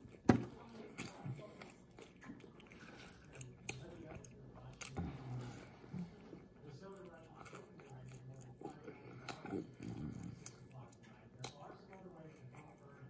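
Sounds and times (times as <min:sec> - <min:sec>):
person chewing crispy food: 0:00.0 - 0:13.0.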